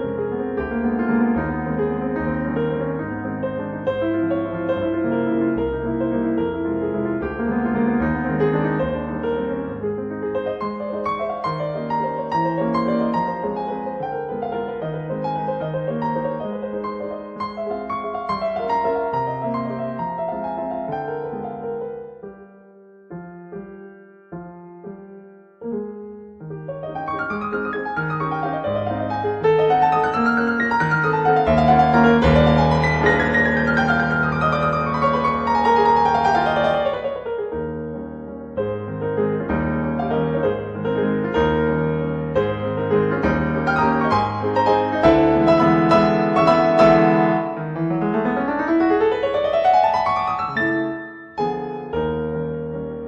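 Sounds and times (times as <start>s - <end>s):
gentle piano music: 0.0s - 53.0s.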